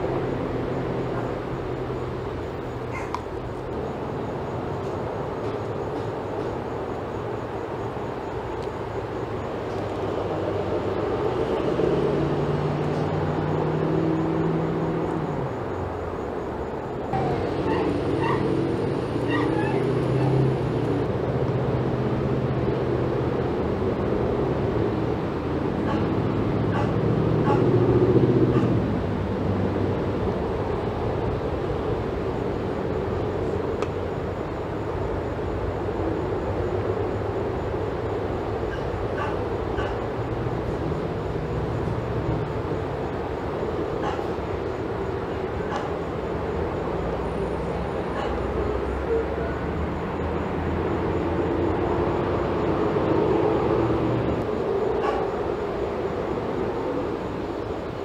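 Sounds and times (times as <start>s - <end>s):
distant engine rumble: 0.0s - 58.0s.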